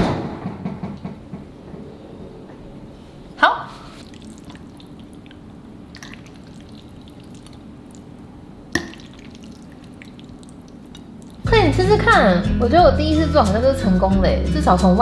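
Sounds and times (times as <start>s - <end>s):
low steady hum: 1.4s - 15.0s.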